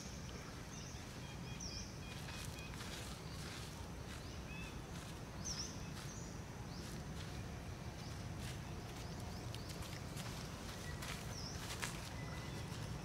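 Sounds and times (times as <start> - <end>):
low outdoor rumble: 0.0 - 13.0
scratching in dry dirt and leaves: 2.0 - 13.0.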